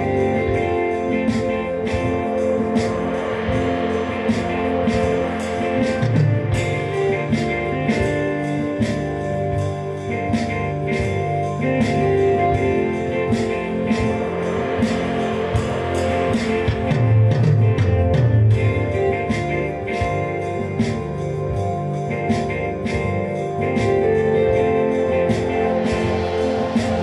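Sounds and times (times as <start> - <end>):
guitar-led music with beat: 0.0 - 27.0.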